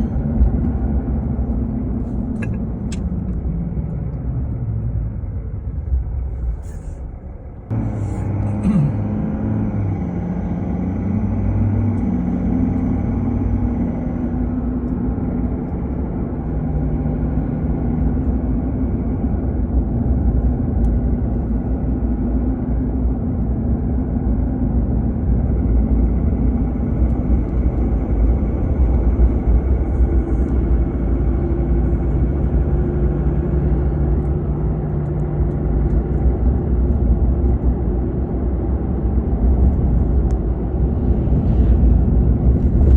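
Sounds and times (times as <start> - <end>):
car driving: 0.0 - 42.9.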